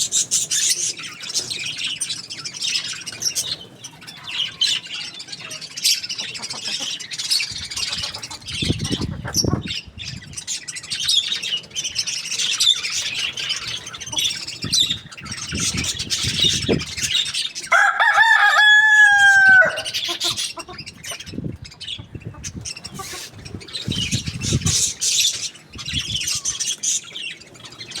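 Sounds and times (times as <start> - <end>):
birds chirping and squawking: 0.0 - 28.0.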